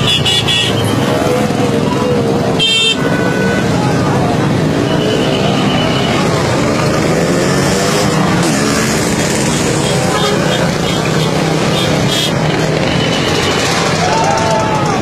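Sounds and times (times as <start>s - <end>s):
crowd voices: 0.0s - 15.0s
vehicle engines running: 0.0s - 15.0s.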